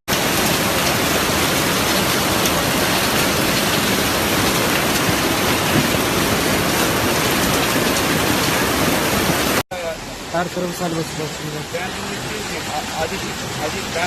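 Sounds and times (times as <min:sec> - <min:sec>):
heavy rain on hard surfaces: 0:00.1 - 0:14.0.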